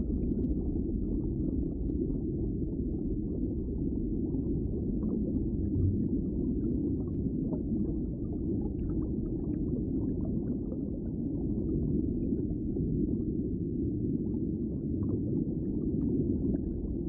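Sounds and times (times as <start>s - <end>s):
underwater low rumble: 0.0s - 17.0s.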